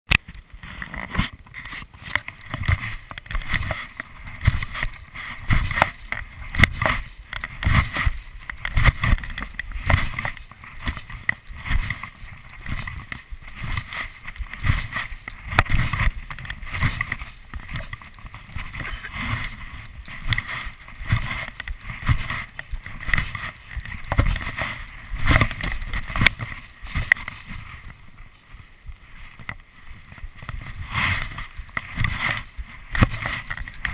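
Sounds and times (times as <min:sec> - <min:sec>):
rushing and rubbing noise: 0:00.2 - 0:28.0.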